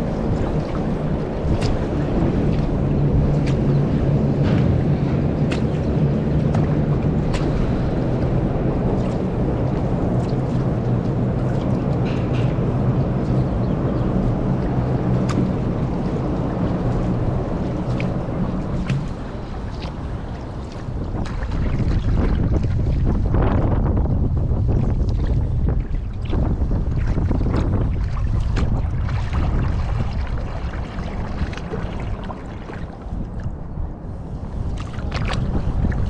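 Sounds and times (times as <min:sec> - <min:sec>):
water splashes and clicks: 0:00.0 - 0:33.7, 0:34.6 - 0:36.0
boat engine humming: 0:00.0 - 0:36.0.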